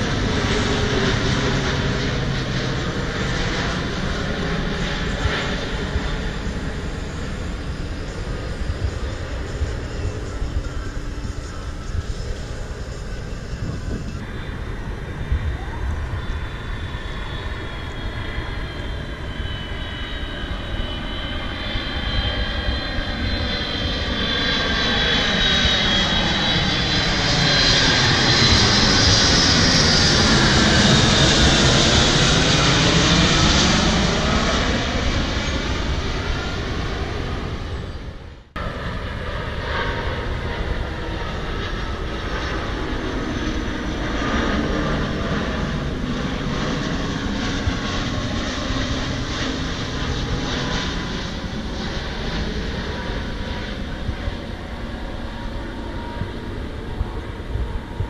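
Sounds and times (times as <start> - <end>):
faint aircraft engine: 0.0 - 58.0
jet airliner flying overhead: 0.0 - 58.0.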